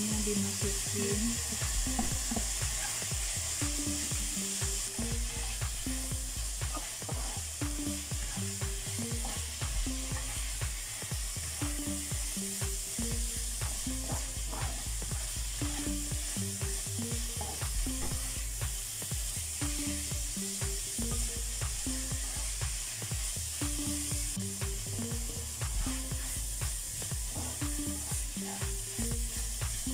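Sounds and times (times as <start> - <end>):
food sizzling in oil: 0.0 - 29.9.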